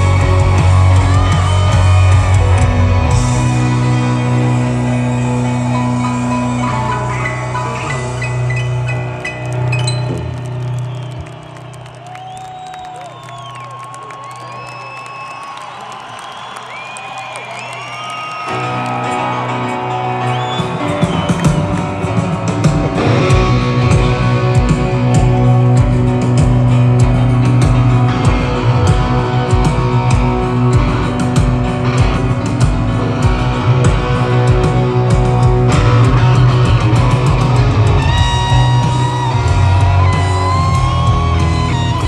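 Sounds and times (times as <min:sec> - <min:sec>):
lead electric guitar bending notes: 0:00.0 - 0:11.8, 0:18.5 - 0:42.0
bass guitar: 0:00.0 - 0:14.6, 0:18.5 - 0:42.0
piano: 0:00.0 - 0:14.6, 0:18.5 - 0:42.0
drums: 0:00.0 - 0:42.0.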